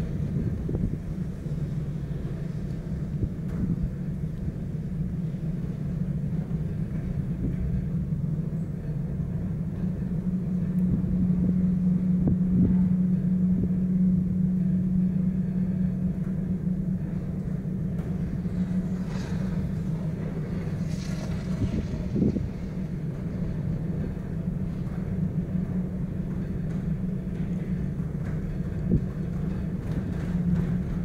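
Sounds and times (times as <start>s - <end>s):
cable car cabin hum and rumble: 0.0s - 31.0s.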